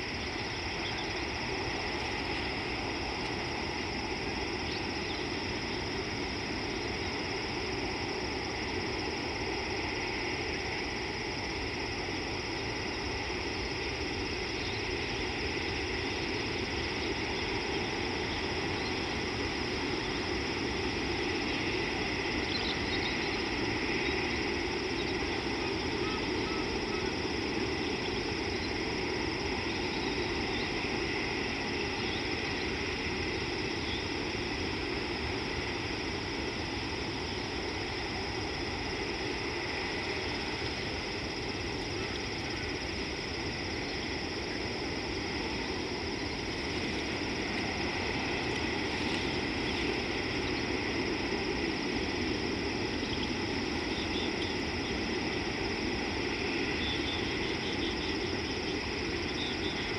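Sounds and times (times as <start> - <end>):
low rushing hiss: 0.0 - 59.9.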